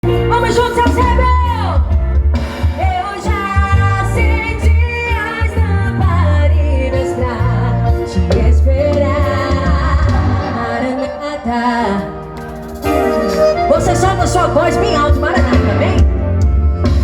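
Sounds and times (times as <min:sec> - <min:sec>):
gospel song with heavy bass: 0:00.0 - 0:17.0.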